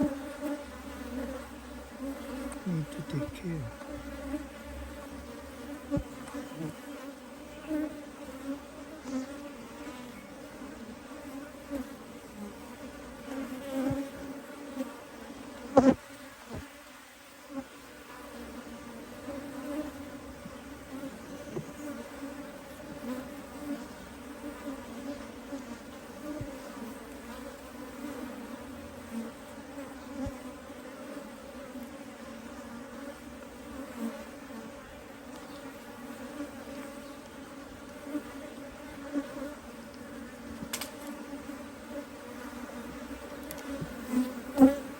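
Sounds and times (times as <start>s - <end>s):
honey bee colony humming: 0.0s - 44.9s.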